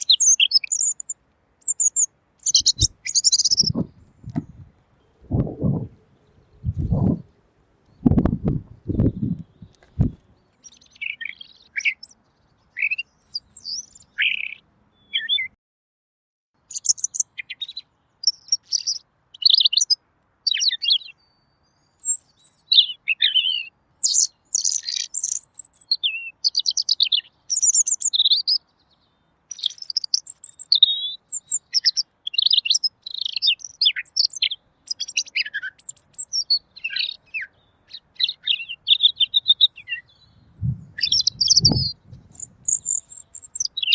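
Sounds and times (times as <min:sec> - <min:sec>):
bird song chirps and trills: 0:00.0 - 0:15.6, 0:16.6 - 0:43.9.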